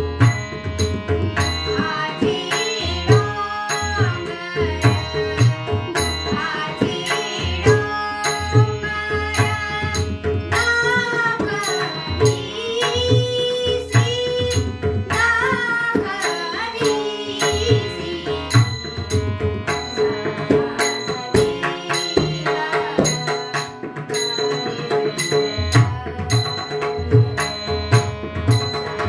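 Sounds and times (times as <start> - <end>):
harmonium chords: 0.0 - 29.0
girl singing devotional song: 1.3 - 27.9.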